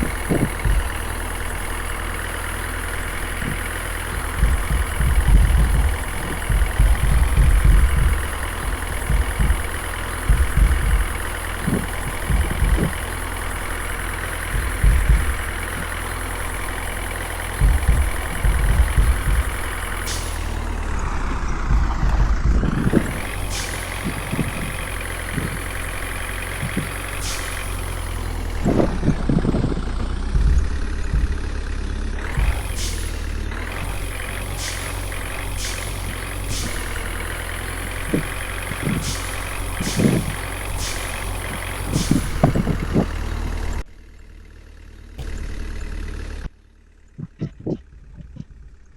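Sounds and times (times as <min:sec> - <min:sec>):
irregular low thumps: 0:00.0 - 0:43.8, 0:47.1 - 0:48.9
truck engine running: 0:00.0 - 0:48.9.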